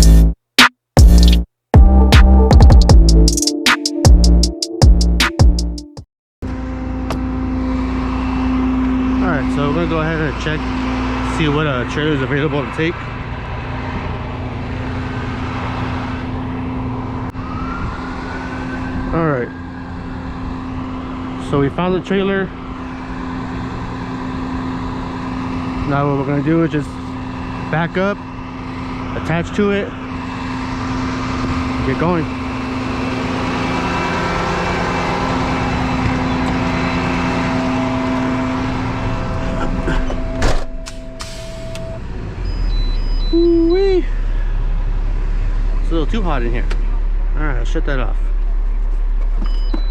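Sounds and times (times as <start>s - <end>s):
truck engine running: 6.4s - 17.4s, 19.6s - 49.9s.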